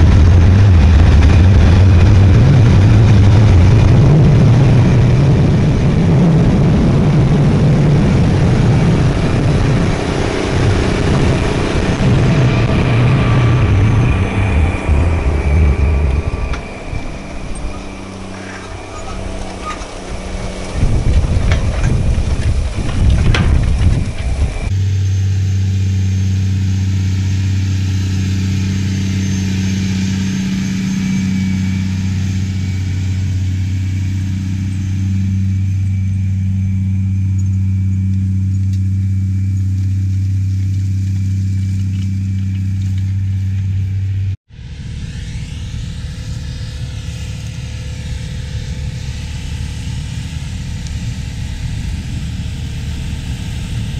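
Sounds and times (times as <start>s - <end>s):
rough engine rumble: 0.0s - 53.9s
tractor diesel engine droning: 0.0s - 53.9s.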